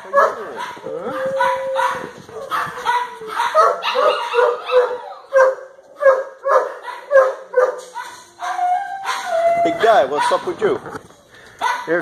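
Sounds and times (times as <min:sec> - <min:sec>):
dog crying: 0:00.0 - 0:10.5
dogs barking: 0:00.0 - 0:10.7, 0:11.6 - 0:12.0.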